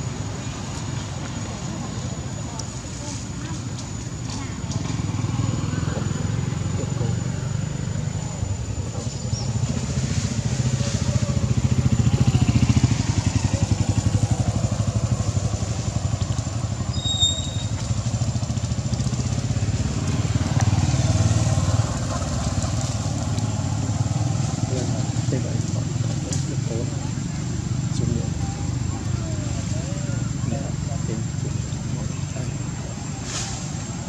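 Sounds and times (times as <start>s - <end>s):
small engine running: 0.1s - 34.0s.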